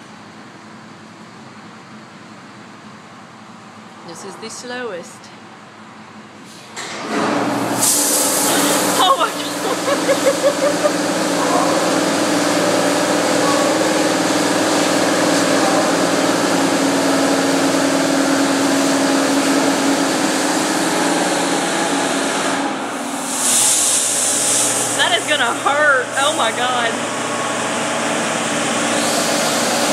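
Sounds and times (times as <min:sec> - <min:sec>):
car wash machinery drone: 0:00.0 - 0:29.9.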